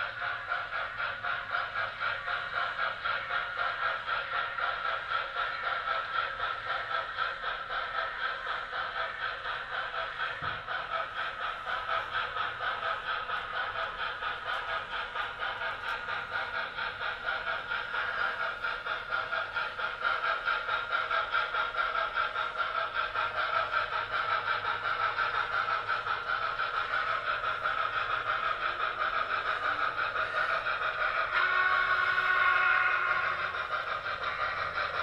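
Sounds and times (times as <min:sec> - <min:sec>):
model steam locomotive chuffing: 0:00.0 - 0:35.0
model train rolling: 0:00.0 - 0:35.0.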